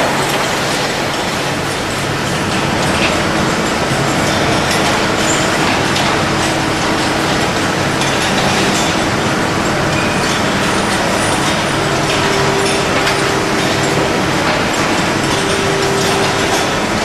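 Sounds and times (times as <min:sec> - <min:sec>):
factory machinery din: 0:00.0 - 0:17.0.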